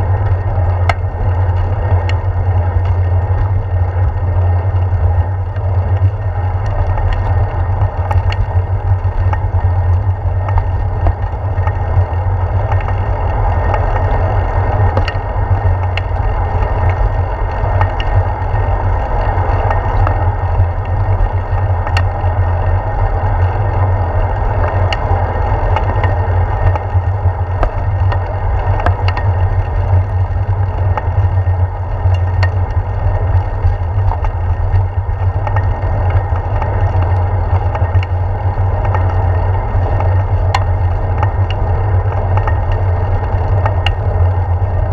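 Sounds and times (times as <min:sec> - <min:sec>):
wind rumble and road vibration: 0:00.0 - 0:44.9
faint ticks: 0:00.1 - 0:22.6, 0:24.6 - 0:44.9.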